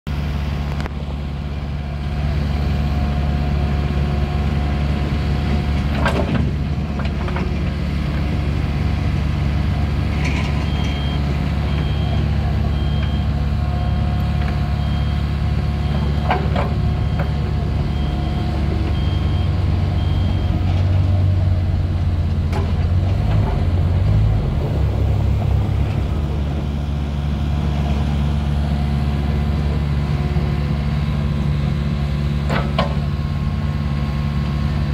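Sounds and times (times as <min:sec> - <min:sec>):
excavator engine and hydraulics: 0:00.1 - 0:34.9.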